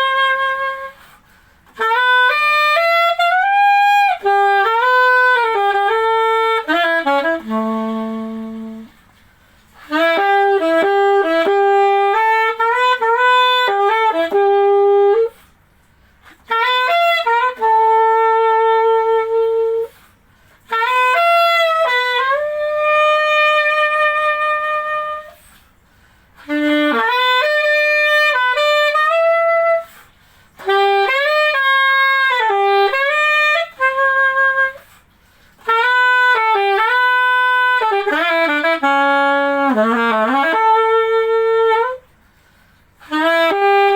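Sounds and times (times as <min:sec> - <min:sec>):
solo saxophone melody: 0:00.0 - 0:43.9.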